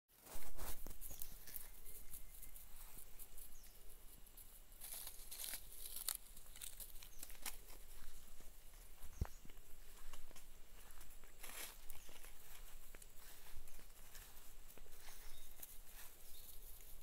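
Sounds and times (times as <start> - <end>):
footsteps on grass: 0.1 - 17.0.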